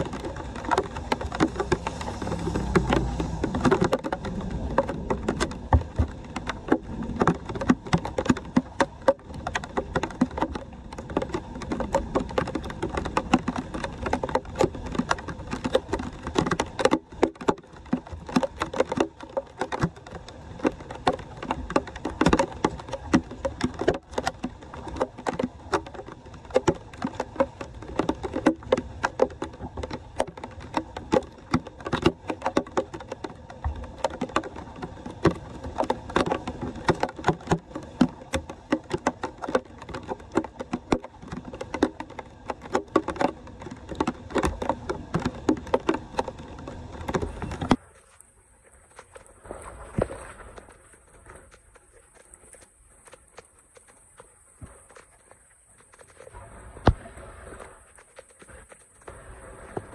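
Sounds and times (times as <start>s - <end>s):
splashes and drips: 0.0s - 59.9s.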